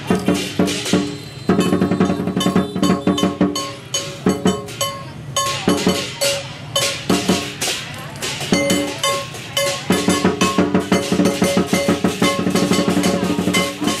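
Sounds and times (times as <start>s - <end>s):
big drum beaten: 0.0s - 14.0s
ringing cymbals: 0.0s - 14.0s.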